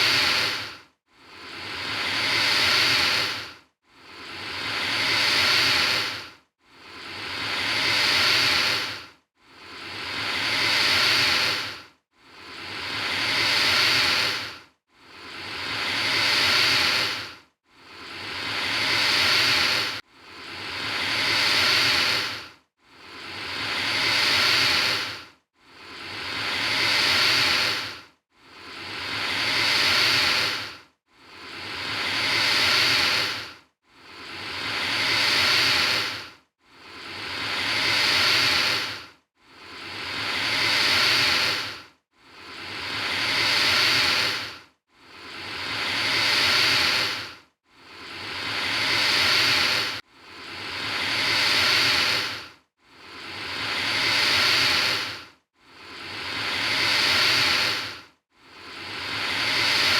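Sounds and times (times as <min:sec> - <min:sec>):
alligator hissing: 0:00.0 - 0:06.2, 0:06.9 - 0:09.0, 0:09.6 - 0:11.8, 0:12.4 - 0:14.6, 0:15.2 - 0:17.3, 0:17.9 - 0:22.4, 0:23.1 - 0:28.0, 0:28.6 - 0:36.3, 0:36.9 - 0:44.6, 0:45.3 - 0:52.4, 0:53.2 - 0:58.0, 0:58.9 - 0:59.9.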